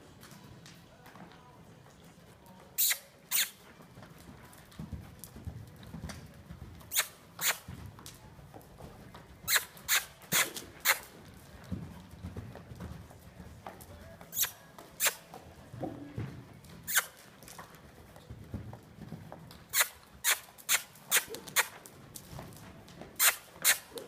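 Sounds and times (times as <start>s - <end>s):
hoofbeats on sand: 0.1s - 24.0s.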